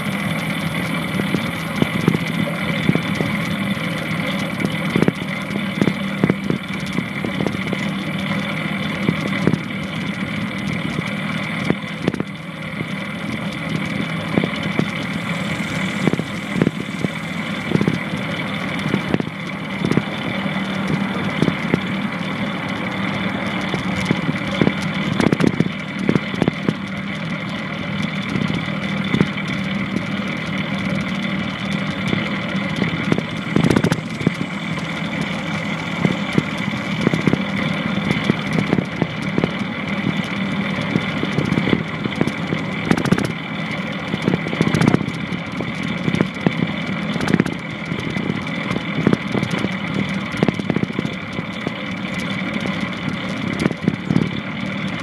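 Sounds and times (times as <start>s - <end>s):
longboard wheels rumbling on pavement: 0.0s - 55.0s
wheels knocking: 0.0s - 55.0s.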